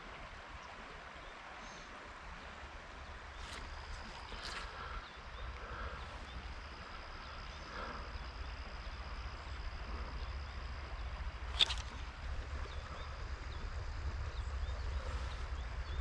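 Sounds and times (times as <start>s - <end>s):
faint high whine: 0.0s - 16.0s
flowing river water: 0.0s - 16.0s
low steady rumble: 0.0s - 16.0s.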